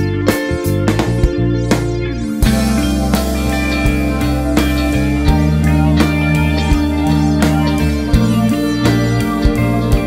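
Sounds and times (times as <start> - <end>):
guitar-led music with beat: 0.0 - 10.0.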